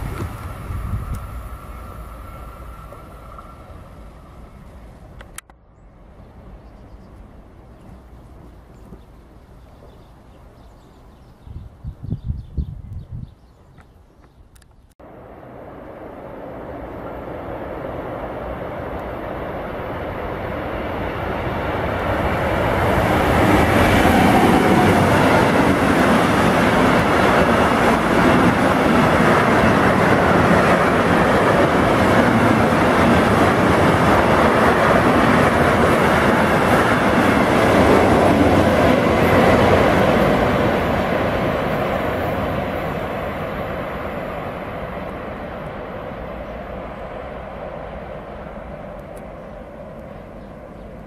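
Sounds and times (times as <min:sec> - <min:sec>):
train wheels rolling on rails: 0:00.0 - 0:05.5, 0:15.5 - 0:51.0.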